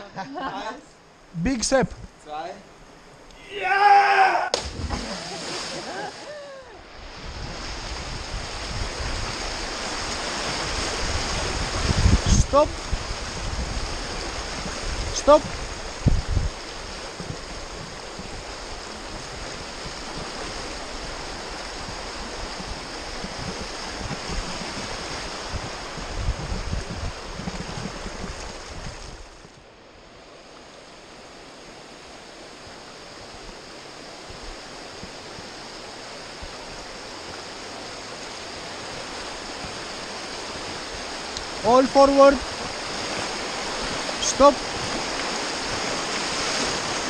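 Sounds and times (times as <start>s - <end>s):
river water rushing over rapids: 3.8s - 47.0s.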